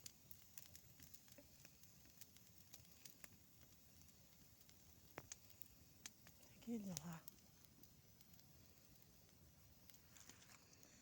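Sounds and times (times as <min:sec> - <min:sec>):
campfire crackling: 0:00.0 - 0:11.0
fire pops: 0:00.0 - 0:11.0.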